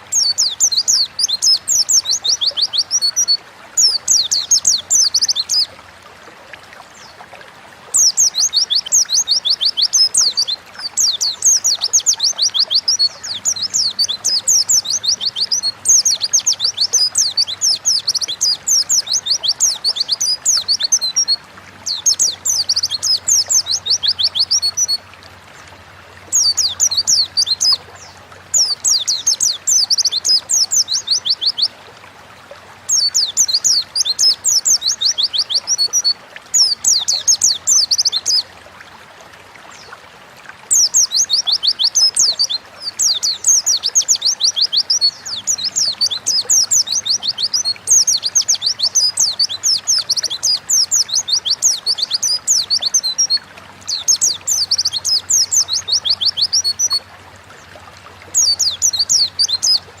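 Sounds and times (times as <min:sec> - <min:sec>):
bird twittering song: 0:00.0 - 0:05.8, 0:07.9 - 0:31.8, 0:32.8 - 0:38.5, 0:40.7 - 1:00.0.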